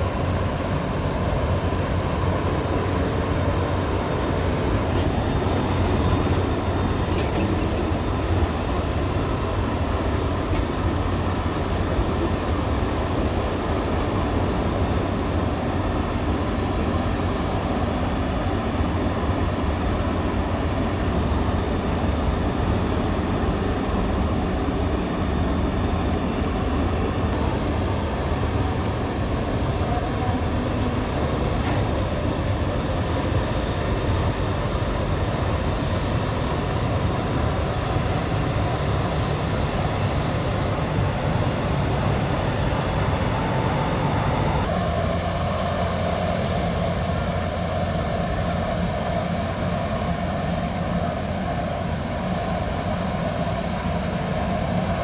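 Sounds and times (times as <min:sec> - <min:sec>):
deep rushing boat engine rumble: 0:00.0 - 0:55.0
thin high steady tone: 0:00.0 - 0:55.0.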